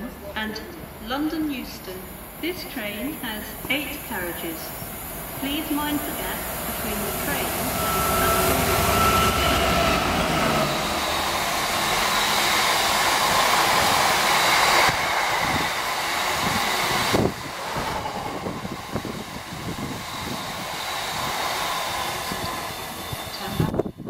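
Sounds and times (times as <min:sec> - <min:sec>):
diesel locomotive passing: 0:00.1 - 0:24.0
freight wagons rumbling on rails: 0:03.6 - 0:24.0.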